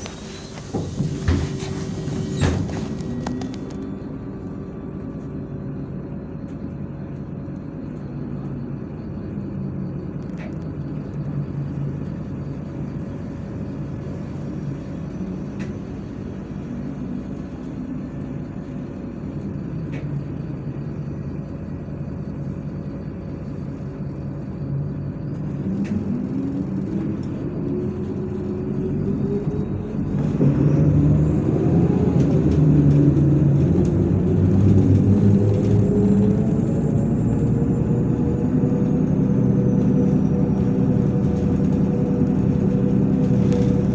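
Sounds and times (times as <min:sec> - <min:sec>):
bus diesel engine running: 0:00.0 - 0:43.9.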